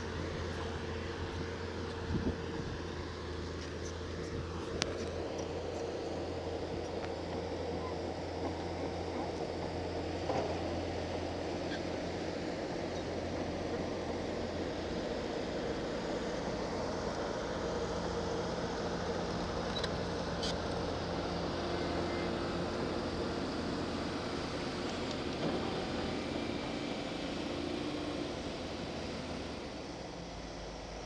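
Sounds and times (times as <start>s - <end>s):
backhoe engine running: 0.0s - 31.0s.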